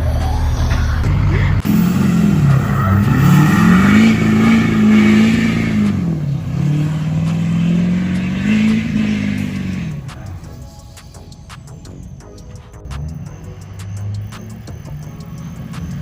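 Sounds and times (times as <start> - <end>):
diesel engine pulling under throttle: 0.0 - 11.4, 12.0 - 16.0.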